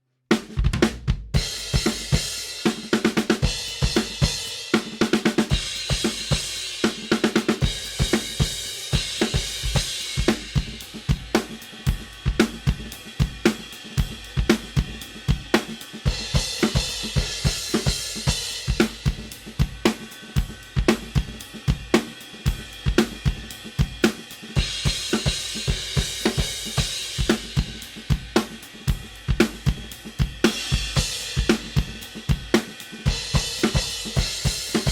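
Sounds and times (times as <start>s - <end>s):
drum kit groove: 0.3s - 34.9s.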